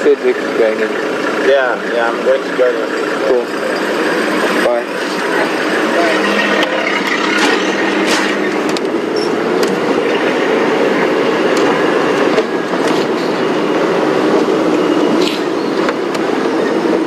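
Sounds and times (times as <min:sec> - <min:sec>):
vehicle engine and tyres rumbling: 0:00.0 - 0:17.0.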